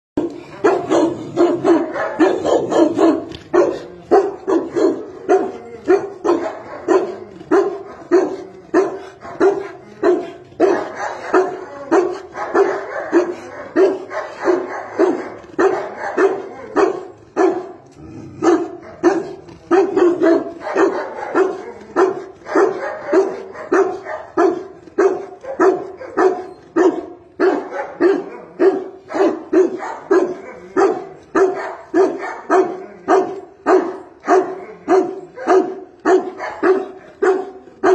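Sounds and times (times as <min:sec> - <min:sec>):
dog barking deeply: 0:00.2 - 0:37.9.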